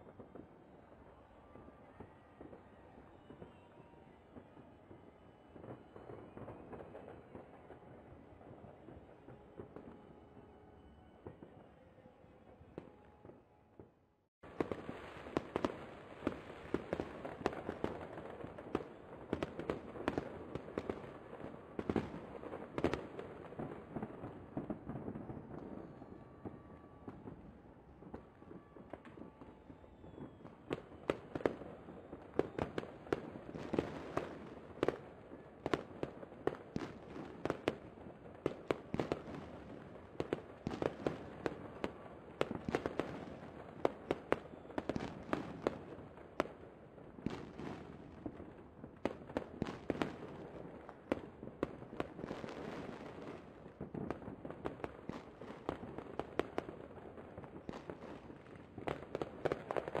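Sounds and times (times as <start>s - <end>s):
fireworks bursting: 0.0s - 11.7s, 14.5s - 60.0s.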